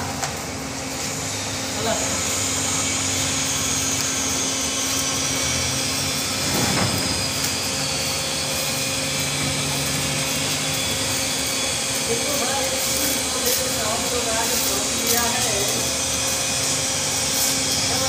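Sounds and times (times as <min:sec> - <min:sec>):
machine hum with high whine: 0:00.0 - 0:18.0.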